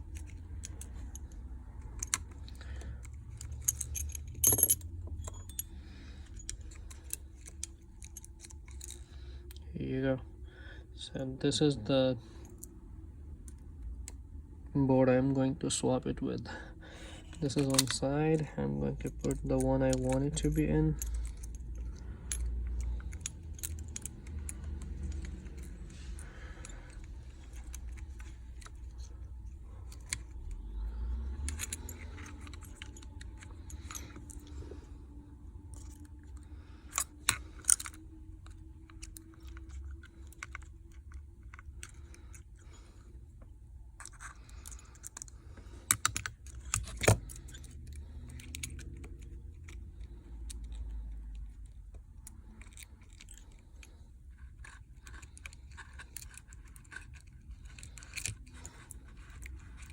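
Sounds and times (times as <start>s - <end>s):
small tools clicking and tapping: 0.0s - 9.6s, 19.0s - 42.8s, 44.0s - 59.9s
low steady hum: 0.0s - 59.9s.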